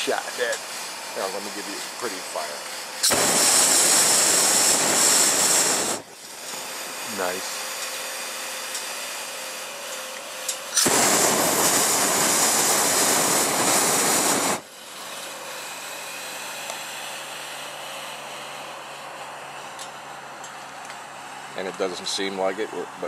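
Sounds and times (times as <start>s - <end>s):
steady hiss: 0.0s - 8.9s, 10.0s - 19.7s
propane burner blast: 0.0s - 23.0s.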